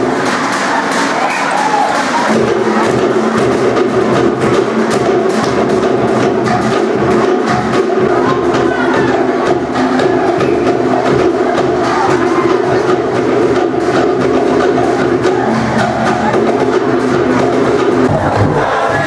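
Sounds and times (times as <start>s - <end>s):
deep drum: 0.0s - 19.0s
slit log drums beating: 0.0s - 19.0s.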